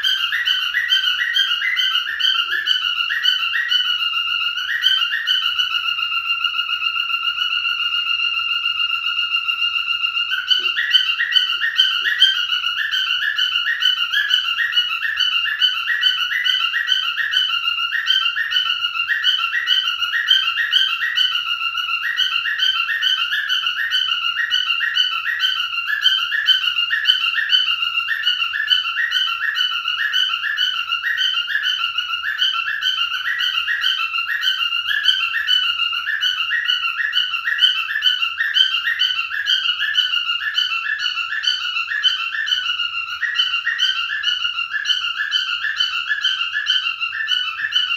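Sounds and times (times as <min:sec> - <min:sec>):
cockatiel warbling: 0:00.0 - 0:47.9.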